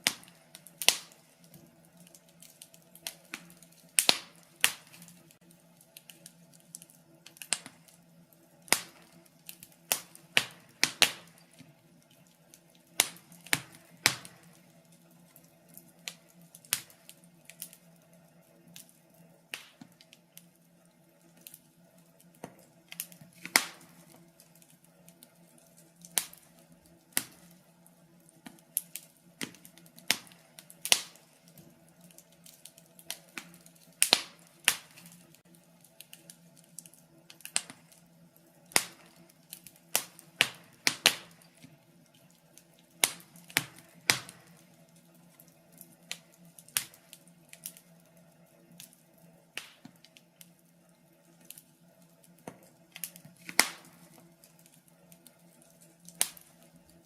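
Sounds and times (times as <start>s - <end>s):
faint steady hum: 0.0s - 57.0s
wood fire crackling: 0.0s - 57.0s.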